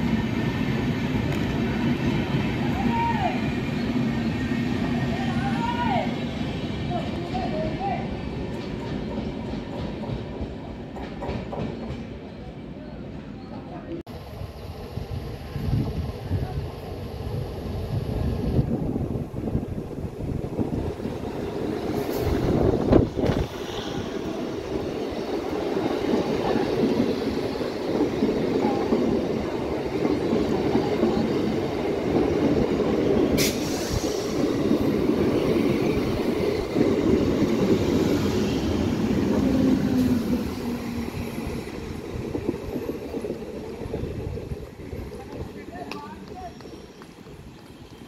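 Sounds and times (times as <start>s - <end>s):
train wheels rumbling on rail: 0.0s - 12.6s, 14.1s - 48.0s.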